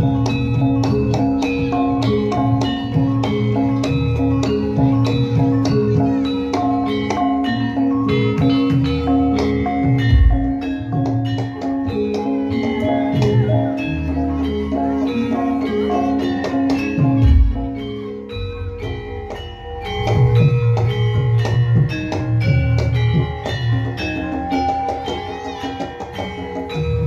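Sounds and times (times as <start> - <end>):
struck metallophones melody: 0.0 - 27.0.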